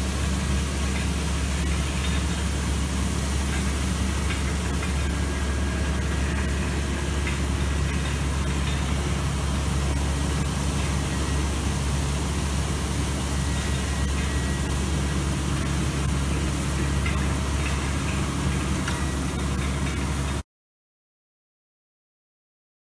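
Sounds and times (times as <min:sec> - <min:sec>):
diesel engine droning: 0:00.0 - 0:20.4.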